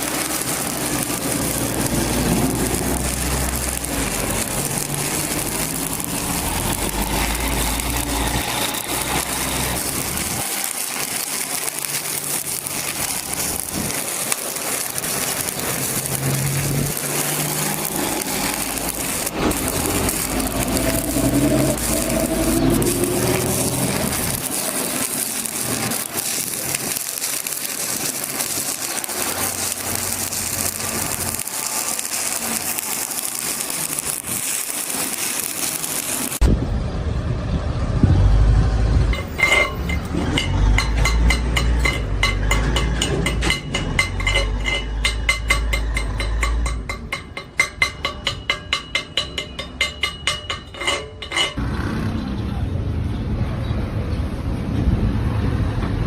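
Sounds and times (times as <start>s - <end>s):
welding arc crackling and hissing: 0.0s - 36.6s, 38.4s - 51.6s.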